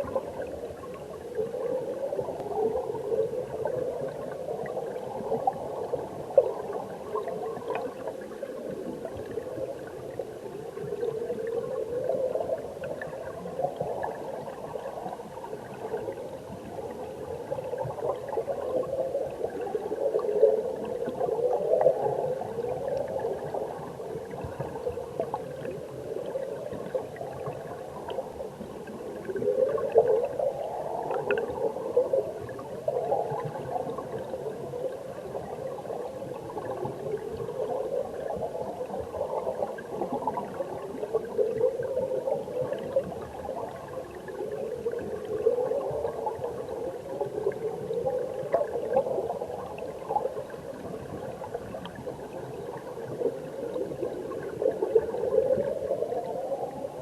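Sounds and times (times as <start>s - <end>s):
muffled flowing water underwater: 0.0s - 57.0s.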